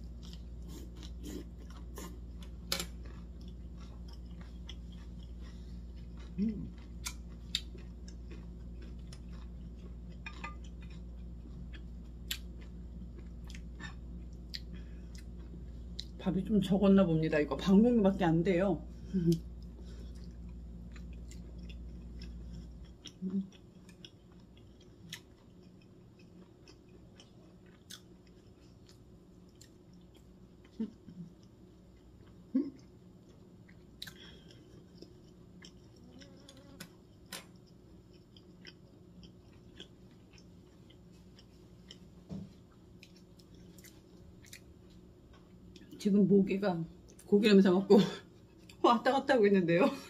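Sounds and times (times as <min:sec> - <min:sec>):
person chewing: 0:00.0 - 0:16.2, 0:19.2 - 0:46.0, 0:48.3 - 0:48.8
low hum: 0:00.0 - 0:50.0.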